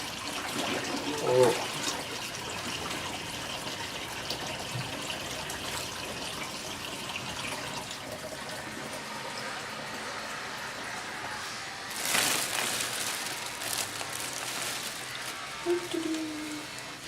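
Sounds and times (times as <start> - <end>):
water rushing in washing machine tub: 0.0 - 17.0.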